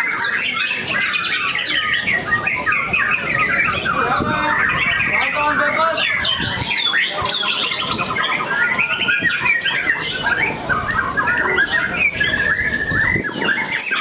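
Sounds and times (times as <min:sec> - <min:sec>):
birds singing whistles and trills: 0:00.0 - 0:14.0.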